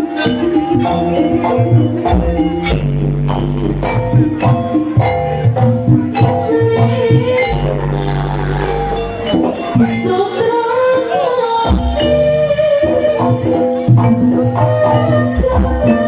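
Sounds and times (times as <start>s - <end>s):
drums beating busy rhythm: 0.0s - 16.0s
gamelan ensemble music: 0.0s - 16.0s.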